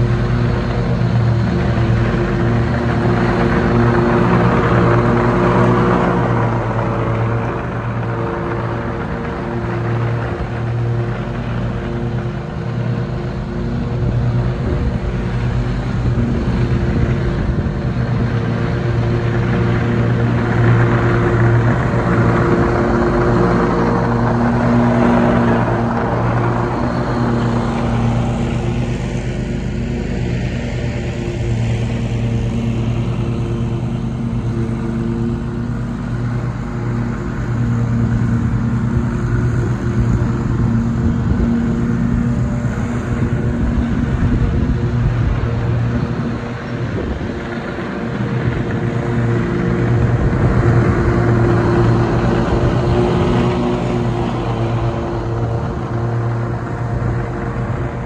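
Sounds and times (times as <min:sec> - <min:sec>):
riding mower engine drone: 0:00.0 - 0:58.0.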